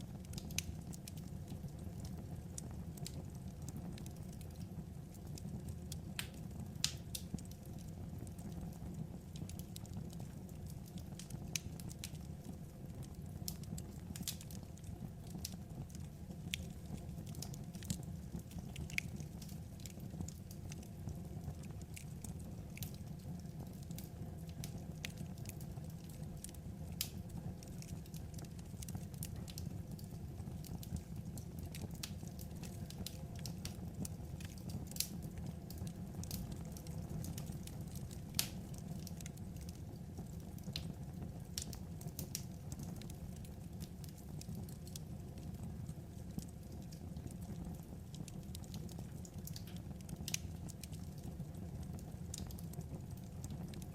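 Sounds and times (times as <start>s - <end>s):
burning logs crackling: 0.0s - 53.9s.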